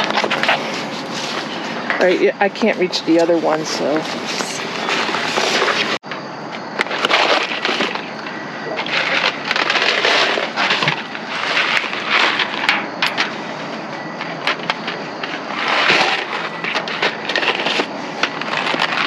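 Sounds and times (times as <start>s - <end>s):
cardboard and trash bags rustling: 0.0s - 6.0s, 6.8s - 19.0s.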